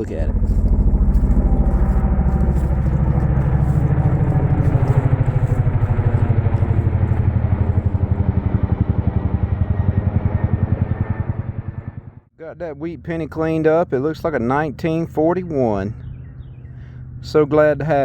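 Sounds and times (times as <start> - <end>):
helicopter rotor beating: 0.0 - 18.0
low engine hum: 0.0 - 18.0.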